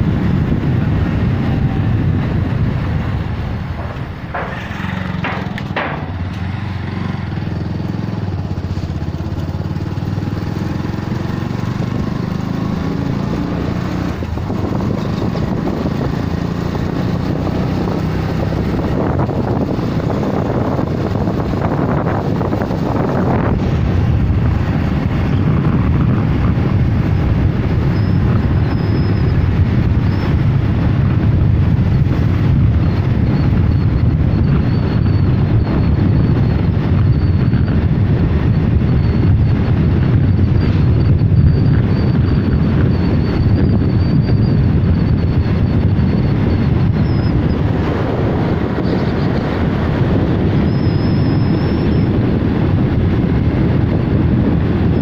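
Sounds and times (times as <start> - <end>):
vehicle engine and tyre rumble: 0.0 - 55.0
wind buffeting microphone: 0.0 - 55.0.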